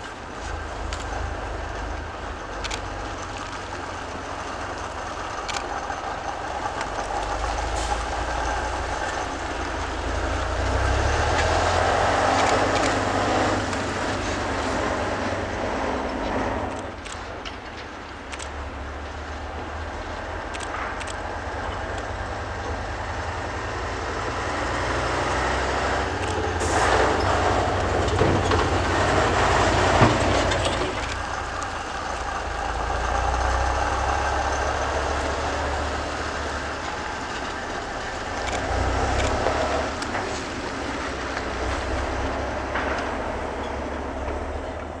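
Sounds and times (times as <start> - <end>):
truck diesel engine driving by: 0.0 - 45.0.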